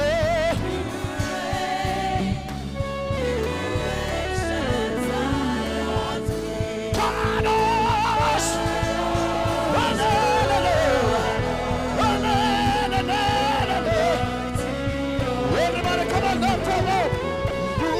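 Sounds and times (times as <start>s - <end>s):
band with steady beat: 0.0s - 17.9s
singing with vibrato: 0.0s - 17.9s.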